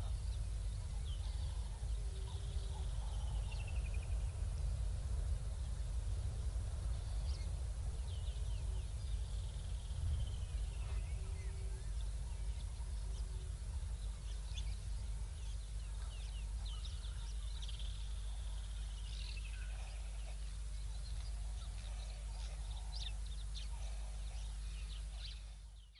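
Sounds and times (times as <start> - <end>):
low microphone rumble: 0.0 - 25.9.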